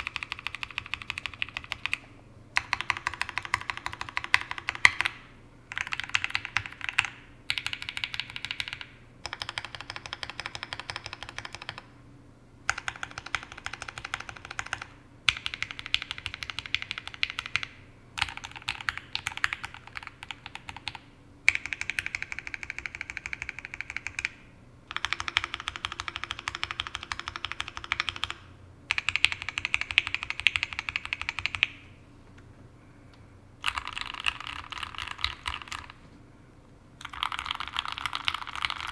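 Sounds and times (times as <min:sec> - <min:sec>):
mechanical keyboard typing: 0:00.0 - 0:11.9, 0:12.7 - 0:31.8, 0:33.6 - 0:36.0, 0:37.0 - 0:38.9.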